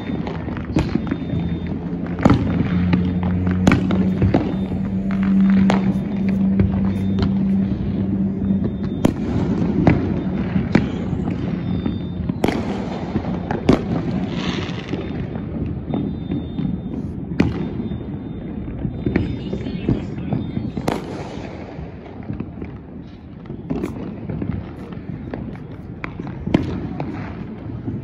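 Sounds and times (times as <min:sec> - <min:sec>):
fireworks bangs: 0:00.0 - 0:28.0
fireworks rumble: 0:00.0 - 0:28.0.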